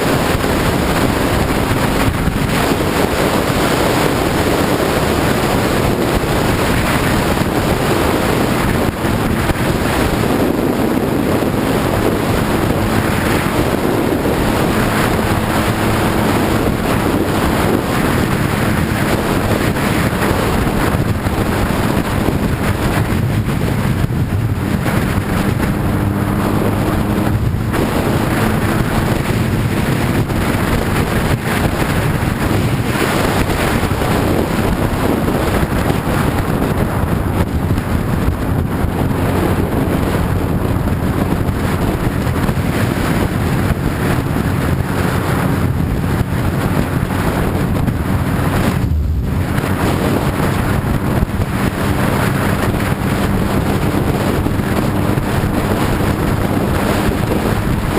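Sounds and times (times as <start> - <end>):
motorcycle engine: 0.0 - 57.9
wind rush on microphone: 0.0 - 57.9.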